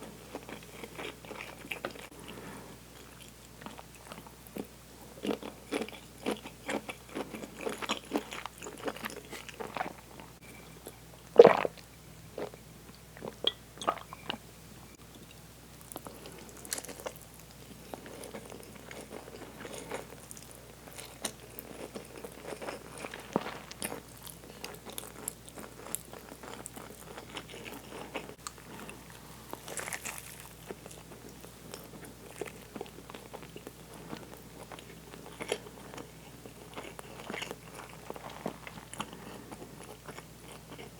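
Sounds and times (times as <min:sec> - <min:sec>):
person chewing food: 0:00.2 - 0:11.8, 0:15.1 - 0:40.9.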